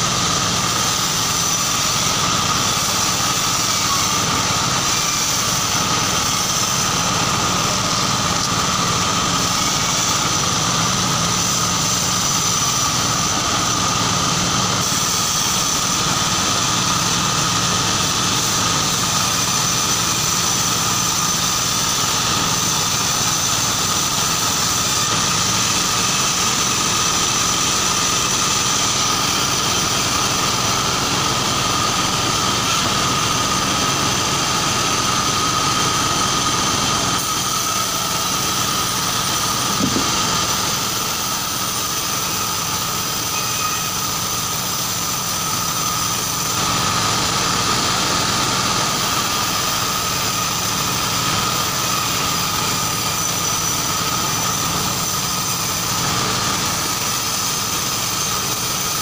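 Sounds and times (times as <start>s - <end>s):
band sawmill sawing log: 0.0s - 59.0s.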